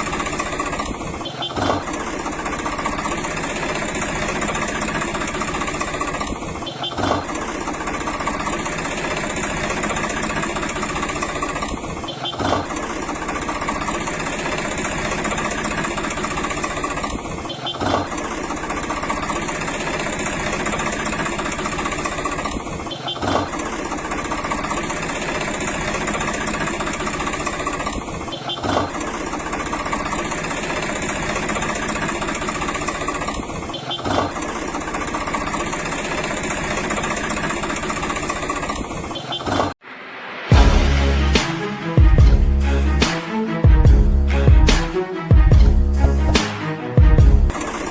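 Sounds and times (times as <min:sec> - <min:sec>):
engine idling: 0:00.0 - 0:39.7, 0:40.5 - 0:47.9.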